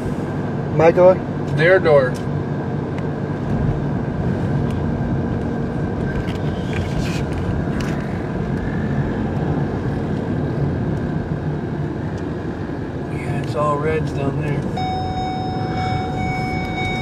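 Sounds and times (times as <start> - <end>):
car road noise: 0.0 - 17.0.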